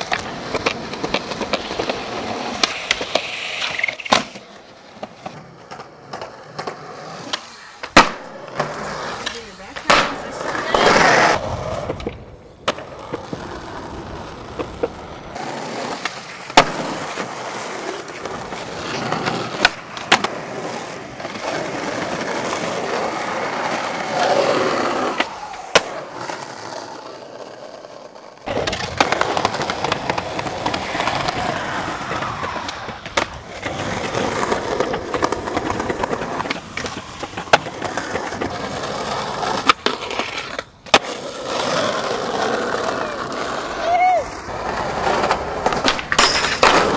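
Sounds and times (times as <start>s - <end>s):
skateboard clacking on ground: 0.0s - 46.9s
skateboard wheels rolling on concrete: 0.0s - 46.9s.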